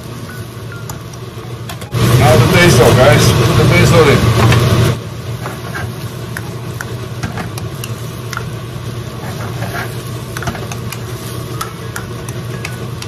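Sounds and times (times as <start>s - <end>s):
food sizzling in a wok: 0.0s - 13.0s
low even hum: 0.0s - 13.0s.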